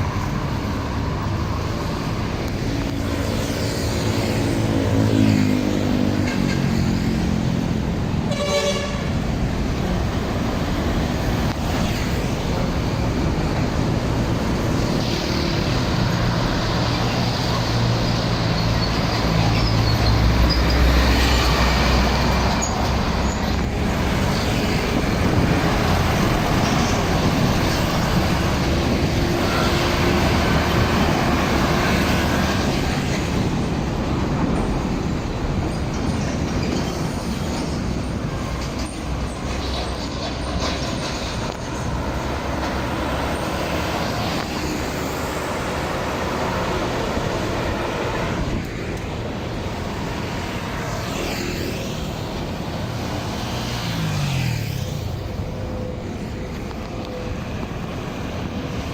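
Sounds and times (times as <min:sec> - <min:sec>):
roadside traffic noise: 0:00.0 - 0:58.9
trucks passing close by: 0:00.0 - 0:58.9.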